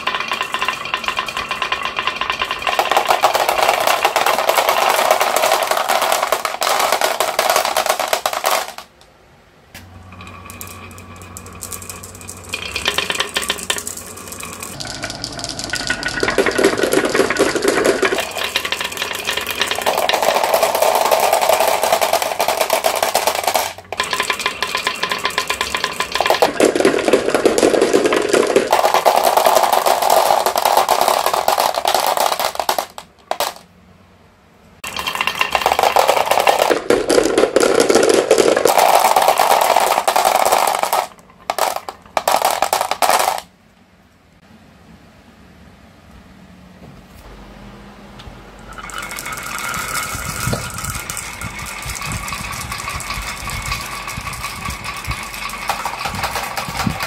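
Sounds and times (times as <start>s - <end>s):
marbles rolling on tracks: 0.0s - 9.0s, 9.8s - 33.7s, 34.8s - 43.5s, 48.6s - 57.0s.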